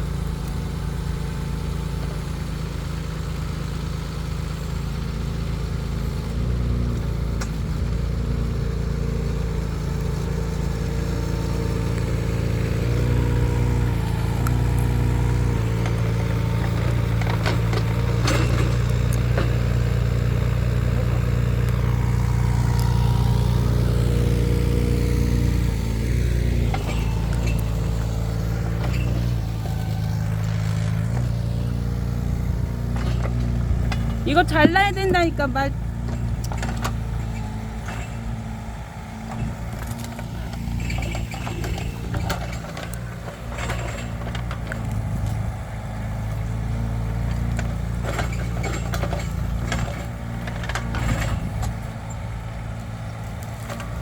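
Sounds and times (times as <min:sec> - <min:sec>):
mini excavator engine running: 0:00.0 - 0:54.0.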